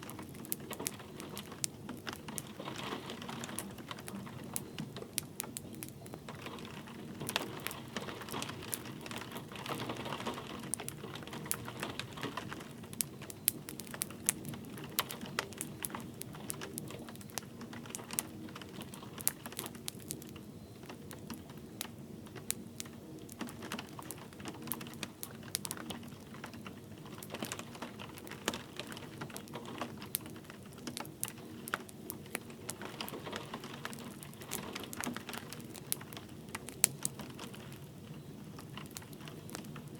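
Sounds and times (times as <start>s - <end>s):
light rain hissing: 0.0s - 39.9s
wood fire crackling and popping: 0.0s - 39.9s.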